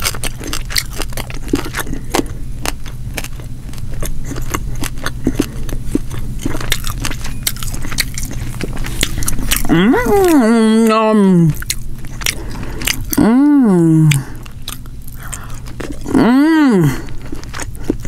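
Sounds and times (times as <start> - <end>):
chewing crunchy fried fish: 0.0 - 18.0
steady low hum: 0.0 - 18.0.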